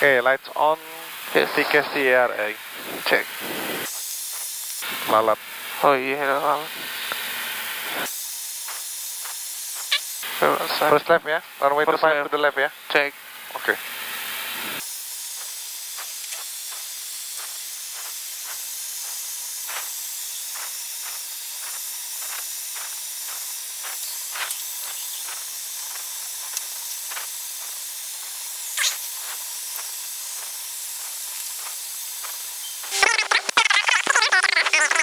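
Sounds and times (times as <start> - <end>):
airplane cabin hiss: 0.0 - 12.1, 13.5 - 33.9.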